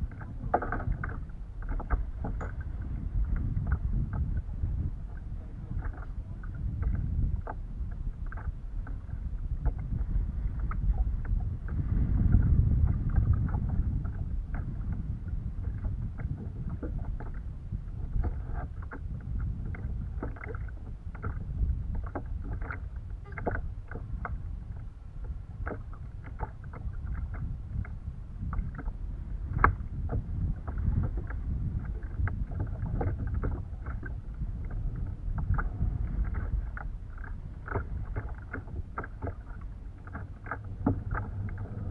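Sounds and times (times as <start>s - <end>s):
water slapping against kayak hull: 0.0s - 41.9s
wind rumble: 0.0s - 41.9s.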